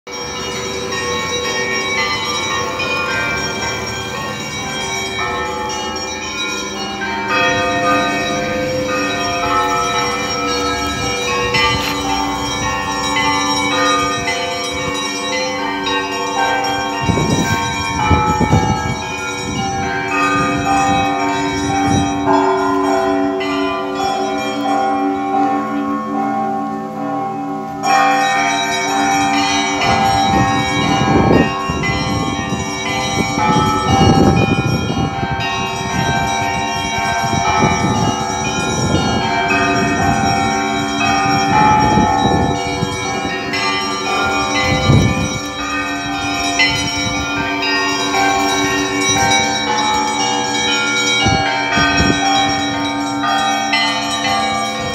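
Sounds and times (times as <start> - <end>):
church bells pealing: 0.1 - 54.9.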